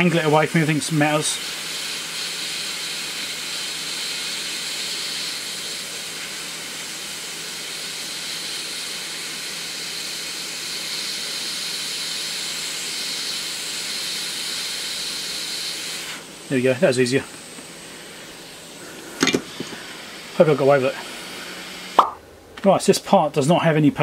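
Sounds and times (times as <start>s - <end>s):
hot air nozzle hissing: 0.0s - 22.2s.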